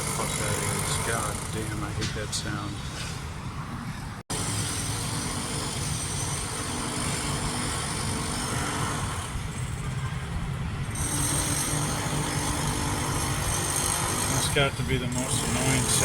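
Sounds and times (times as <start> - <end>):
concrete cutting saw whining: 0.0 - 2.0, 4.3 - 16.0.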